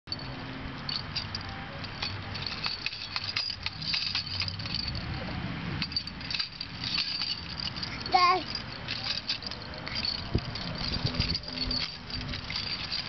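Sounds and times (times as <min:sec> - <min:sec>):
plastic baby toy rattling and clicking: 0:00.9 - 0:05.2, 0:05.8 - 0:13.0.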